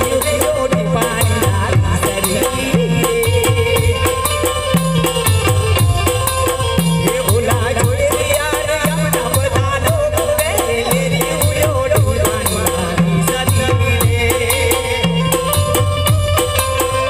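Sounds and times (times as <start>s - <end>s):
drums fast steady beat: 0.0s - 17.0s
folk dance music: 0.0s - 17.0s.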